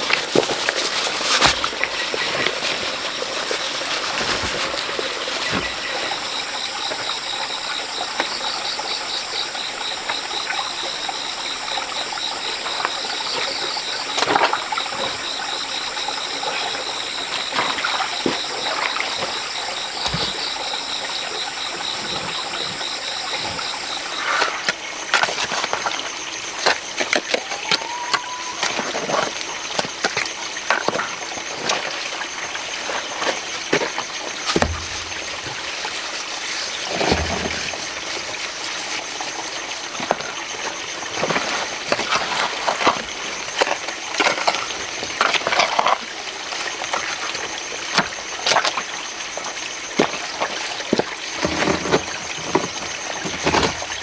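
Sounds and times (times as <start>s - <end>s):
high insect calls: 0.0s - 54.0s
rapidly pulsing insect call: 0.0s - 54.0s
running water: 0.0s - 54.0s.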